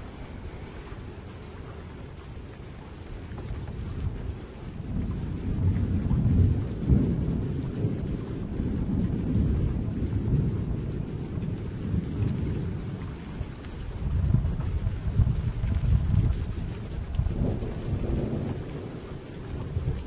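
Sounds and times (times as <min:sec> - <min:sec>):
rolling thunder: 0:03.4 - 0:20.0.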